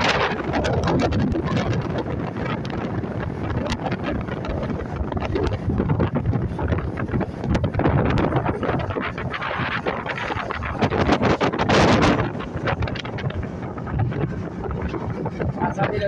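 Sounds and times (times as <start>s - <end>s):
motorboat running through water: 0.0s - 16.0s
wind buffeting microphone: 0.0s - 16.0s.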